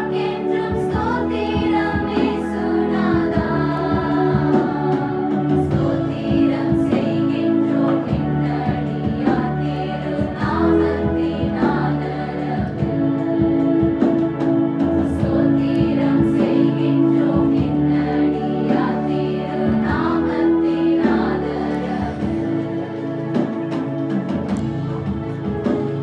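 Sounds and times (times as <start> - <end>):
women singing together: 0.0 - 14.2, 14.9 - 23.5.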